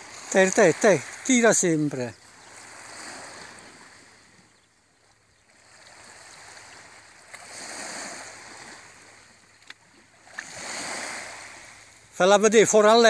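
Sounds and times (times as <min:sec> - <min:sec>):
small waves lapping: 0:00.0 - 0:13.0.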